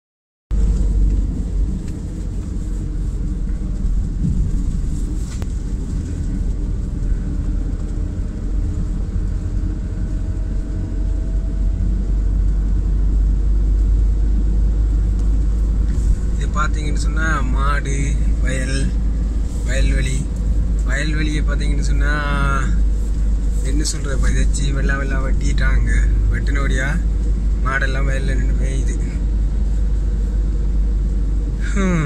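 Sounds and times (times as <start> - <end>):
car cabin road and engine rumble: 0.5 - 32.0.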